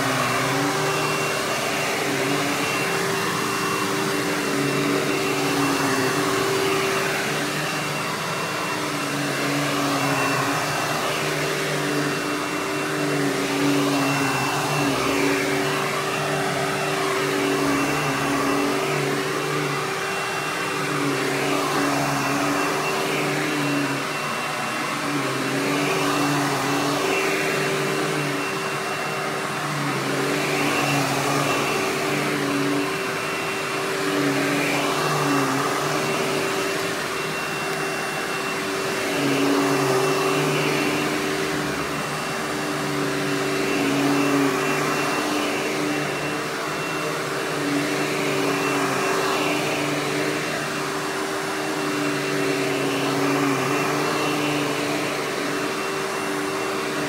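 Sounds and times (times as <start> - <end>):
vacuum cleaner motor whining: 0.0 - 57.0.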